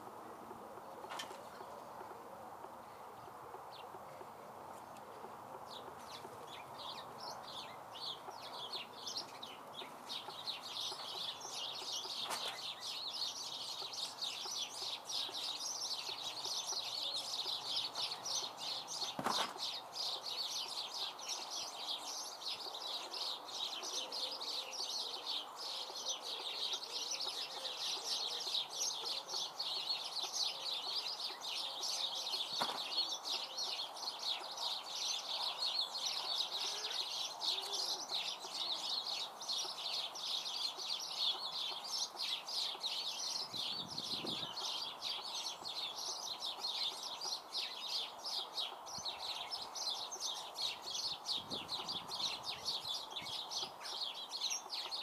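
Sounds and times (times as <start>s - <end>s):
songbirds chattering: 0.0s - 55.0s.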